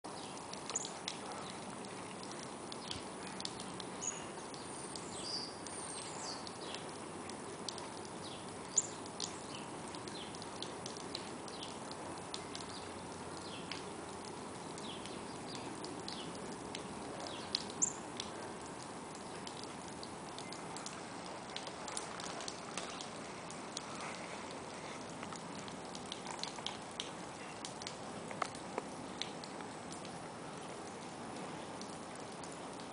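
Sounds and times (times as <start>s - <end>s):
steady background noise: 0.1s - 32.9s.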